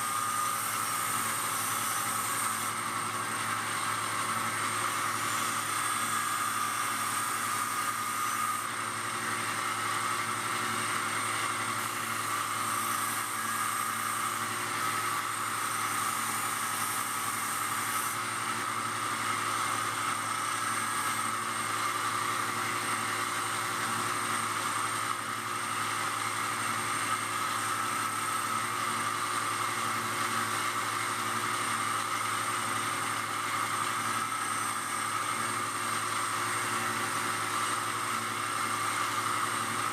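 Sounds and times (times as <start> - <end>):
power grinder whirring: 0.0 - 39.9.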